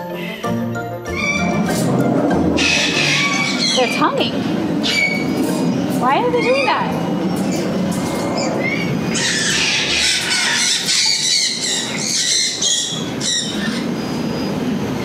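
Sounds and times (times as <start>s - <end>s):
cockatoos screeching: 1.1s - 1.9s, 2.6s - 14.6s.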